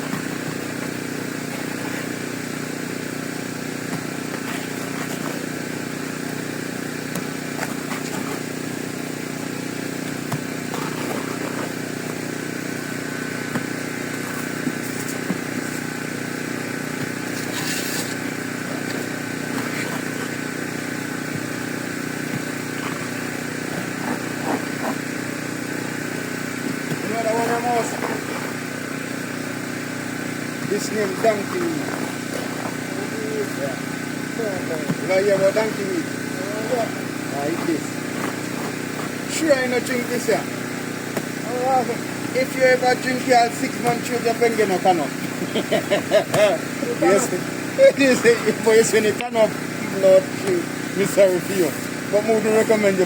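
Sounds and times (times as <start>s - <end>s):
motor hum: 0.0s - 53.0s.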